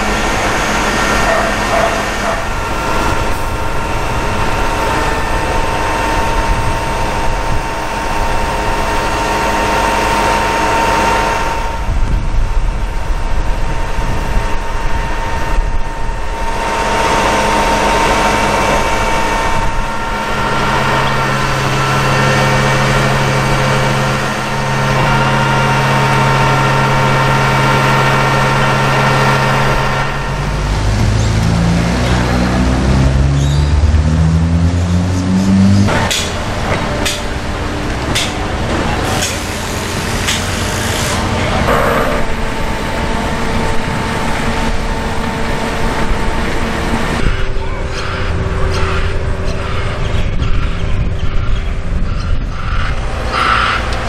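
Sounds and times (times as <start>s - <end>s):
steady high whine: 0.0s - 33.2s, 35.8s - 54.0s
deep engine drone: 0.0s - 54.0s
diesel machinery engines idling: 0.0s - 54.0s.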